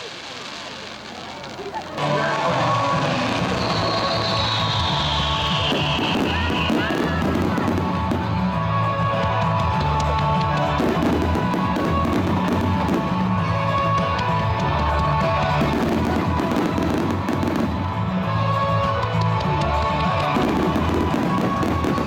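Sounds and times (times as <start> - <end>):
fireworks bangs and crackling: 0.0 - 22.0
rock music: 2.0 - 22.0.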